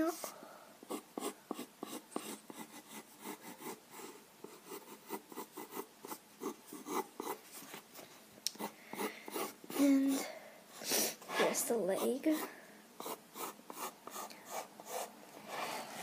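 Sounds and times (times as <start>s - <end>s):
pencil scratching on paper: 0.9s - 7.8s, 8.6s - 10.2s, 11.2s - 16.0s.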